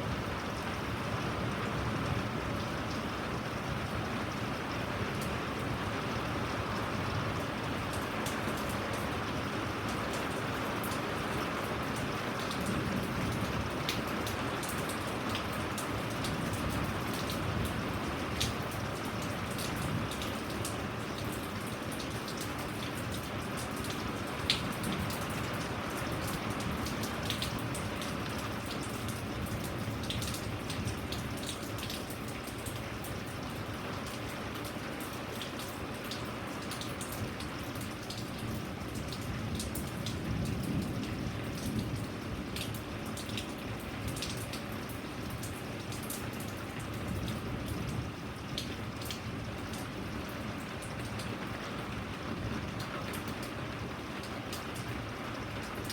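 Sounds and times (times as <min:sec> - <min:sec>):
steady rainfall: 0:00.0 - 0:55.9
raindrops ticking: 0:09.9 - 0:55.9.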